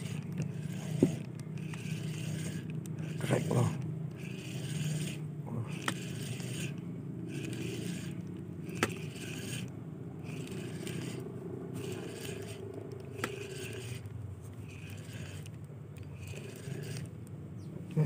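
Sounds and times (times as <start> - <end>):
fishing reel cranking: 0.0 - 17.1
sharp reel clicks: 0.0 - 17.2.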